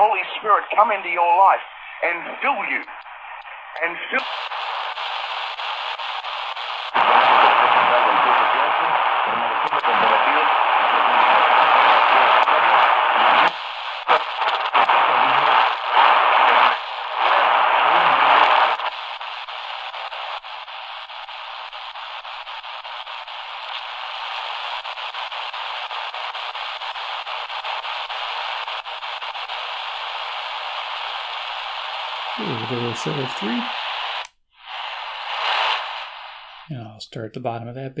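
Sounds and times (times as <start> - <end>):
radio static hiss: 0.0 - 38.0
radio static while tuning: 0.0 - 38.0.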